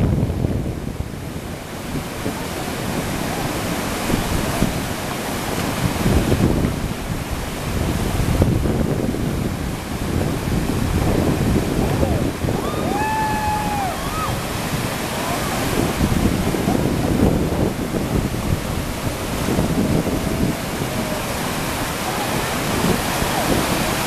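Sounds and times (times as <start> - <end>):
whitewater rushing: 0.0 - 24.0
wind buffeting microphone: 0.0 - 24.0.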